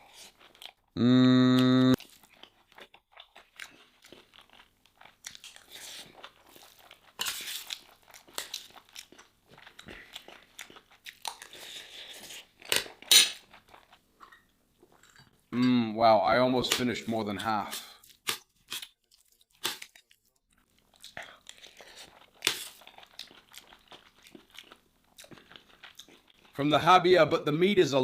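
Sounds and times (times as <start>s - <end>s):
close chewing and mouth clicks: 0.0s - 1.0s, 2.0s - 15.2s, 18.0s - 26.6s.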